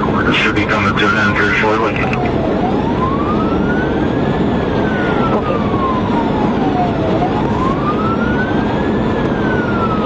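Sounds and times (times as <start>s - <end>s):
car engine and road noise: 0.0s - 10.0s
police siren wailing: 0.0s - 10.0s.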